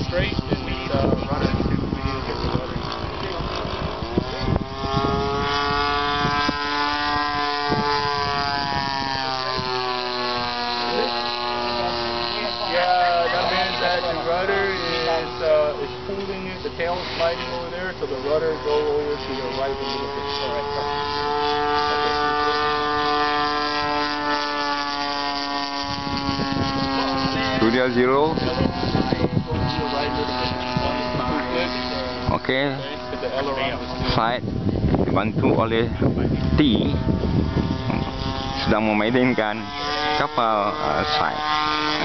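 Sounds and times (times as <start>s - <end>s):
model plane engine buzzing: 0.0s - 42.0s.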